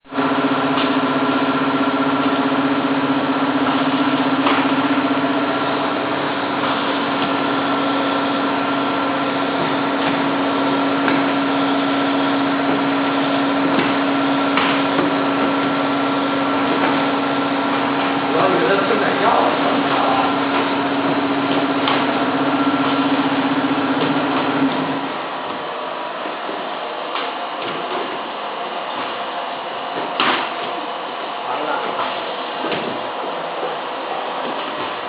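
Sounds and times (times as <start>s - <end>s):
machinery humming: 0.0s - 35.0s.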